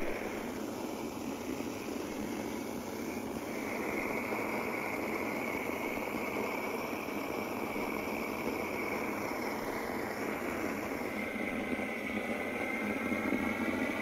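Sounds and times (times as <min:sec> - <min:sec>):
gas torch rushing: 0:00.0 - 0:14.0.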